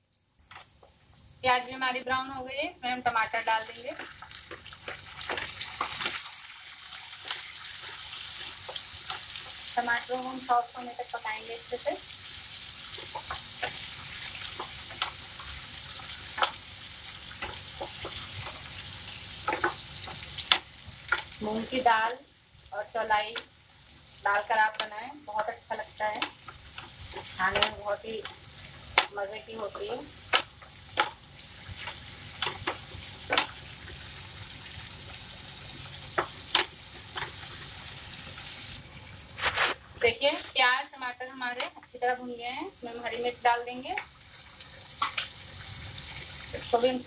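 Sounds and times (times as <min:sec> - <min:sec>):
vegetables sizzling in oil: 0:01.1 - 0:47.0.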